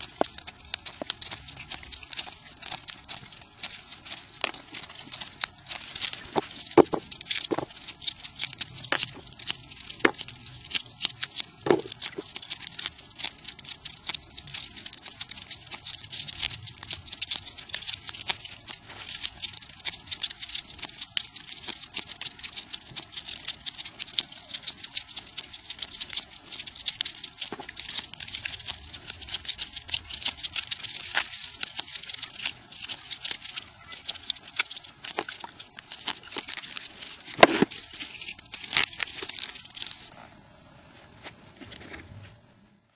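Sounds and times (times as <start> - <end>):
paper crinkling and rustling: 0.0 - 40.3, 41.0 - 42.4.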